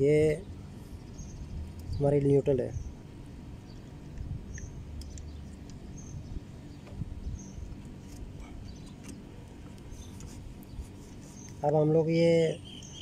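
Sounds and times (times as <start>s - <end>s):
low background rumble: 0.0s - 11.6s.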